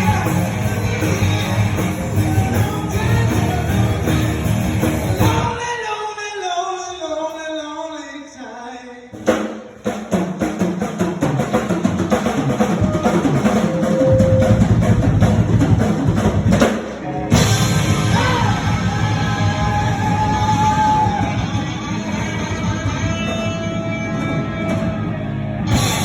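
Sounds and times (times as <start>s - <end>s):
drum kit fast hits: 0.0s - 5.6s, 9.2s - 26.0s
live rock band: 0.0s - 6.0s, 9.2s - 26.0s.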